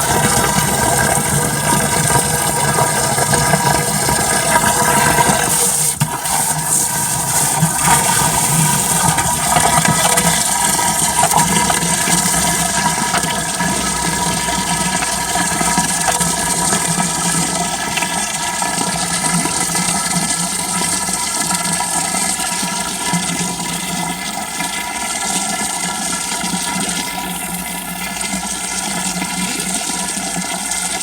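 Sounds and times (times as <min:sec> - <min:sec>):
water pouring into a jar: 0:00.0 - 0:31.0.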